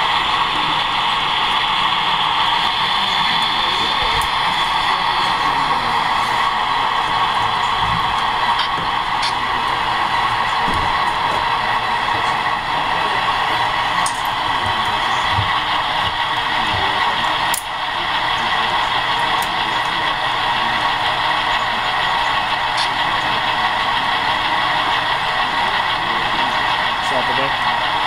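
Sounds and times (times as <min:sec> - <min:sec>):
model locomotive diesel engine drone: 0:00.0 - 0:28.0.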